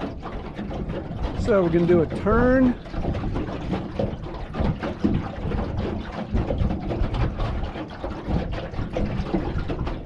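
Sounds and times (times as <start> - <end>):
water splashing against boat hull: 0.0 - 10.0
wind noise on microphone: 0.0 - 10.0.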